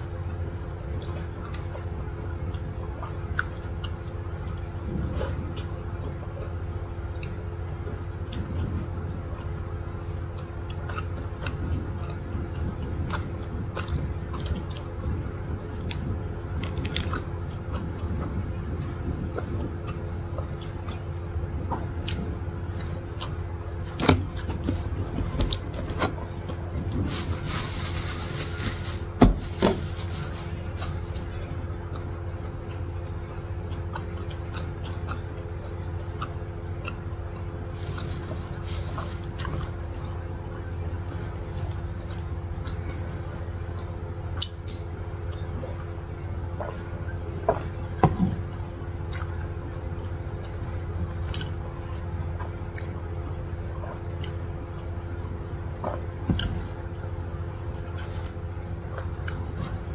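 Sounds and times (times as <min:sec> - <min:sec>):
low background hum: 0:00.0 - 0:59.9
person chewing a burger: 0:00.9 - 0:55.1, 0:57.6 - 0:59.9.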